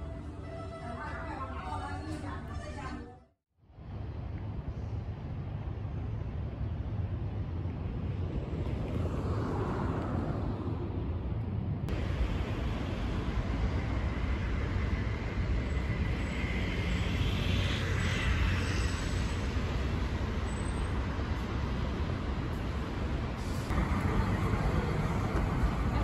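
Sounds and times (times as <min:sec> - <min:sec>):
road traffic rumble: 0:03.7 - 0:26.0.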